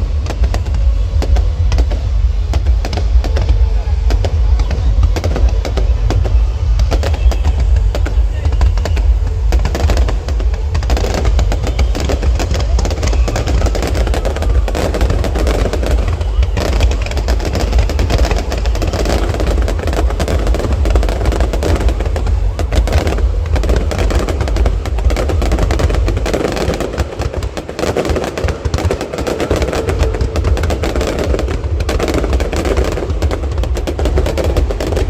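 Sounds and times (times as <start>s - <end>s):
fireworks bangs and crackles: 0.0s - 35.0s
low rumble: 0.0s - 35.0s.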